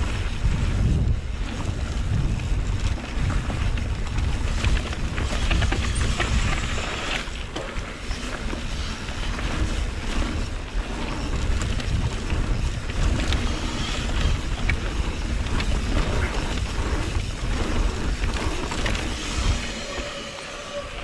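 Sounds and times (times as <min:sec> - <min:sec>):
bike clicks and rattles: 0:00.0 - 0:21.0
wind rushing over microphone: 0:00.0 - 0:21.0.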